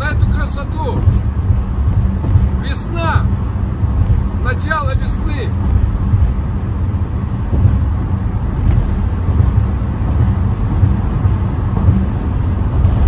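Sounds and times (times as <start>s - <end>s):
car driving on highway: 0.0s - 13.0s.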